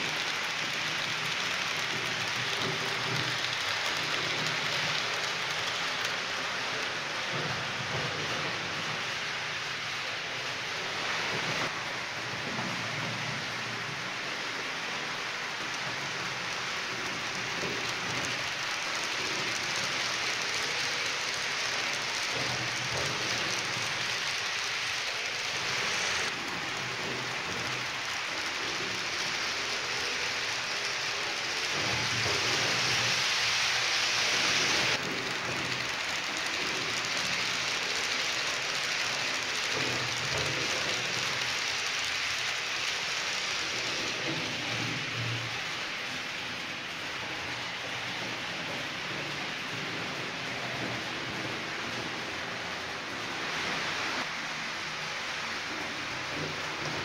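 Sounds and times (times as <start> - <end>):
model train wheels rattling on rails: 0.0 - 57.0.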